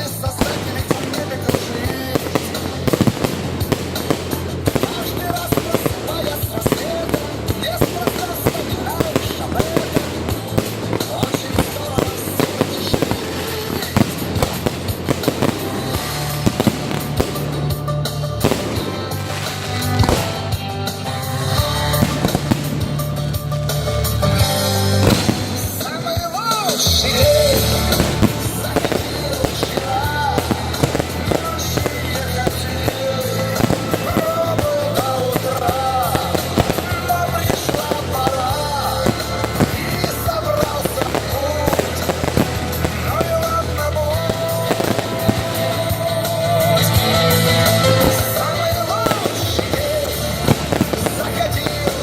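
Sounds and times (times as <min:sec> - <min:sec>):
fireworks bangs and crackles: 0:00.0 - 0:52.0
music playing: 0:00.0 - 0:52.0
song with sung melody: 0:00.0 - 0:52.0.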